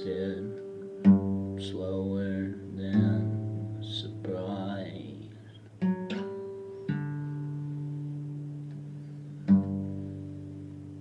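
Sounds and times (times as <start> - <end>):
plucked string notes and chords: 0.0 - 11.0.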